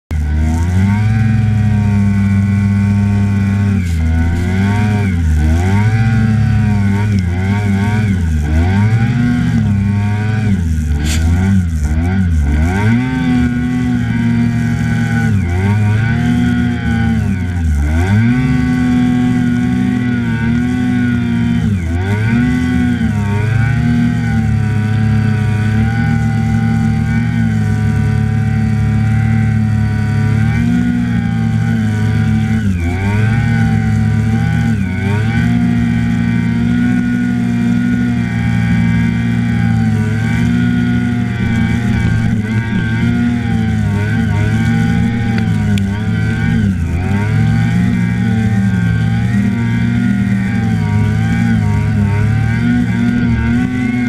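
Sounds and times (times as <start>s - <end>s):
snowmobile engine revving: 0.1s - 54.0s.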